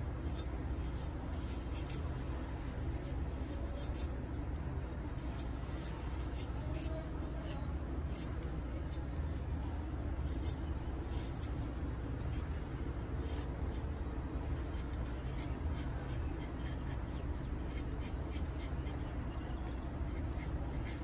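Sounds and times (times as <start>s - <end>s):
steady low rumble: 0.0s - 20.8s
knife scraping ginger root: 0.1s - 2.2s, 3.0s - 4.4s, 5.1s - 19.1s, 20.0s - 21.0s.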